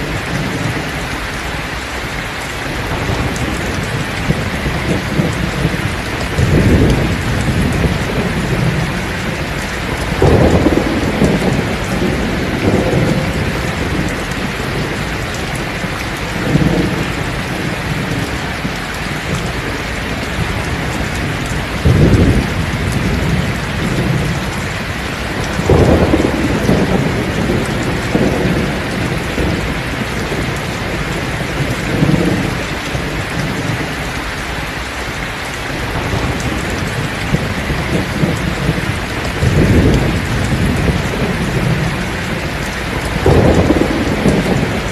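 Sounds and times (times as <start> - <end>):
heavy rain on thatched roof: 0.0 - 44.9
low rolls of thunder: 2.7 - 34.0, 35.8 - 44.9.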